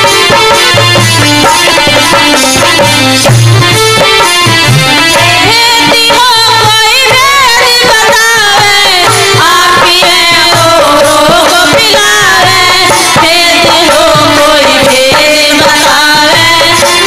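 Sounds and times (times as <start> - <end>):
hand drum beat: 0.0 - 17.0.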